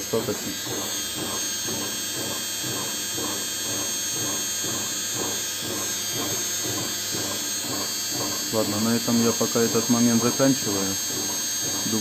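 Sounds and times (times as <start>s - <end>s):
washing machine motor whirring: 0.0s - 12.0s.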